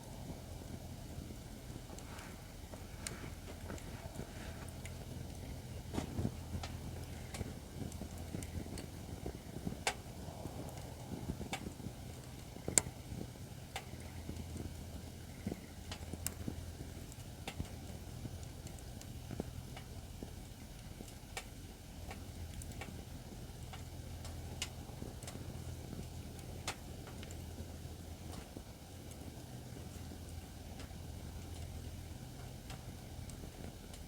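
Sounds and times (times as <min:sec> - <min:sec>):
firewood crackling and popping: 0:00.0 - 0:34.0
low fire rumble: 0:00.0 - 0:34.0.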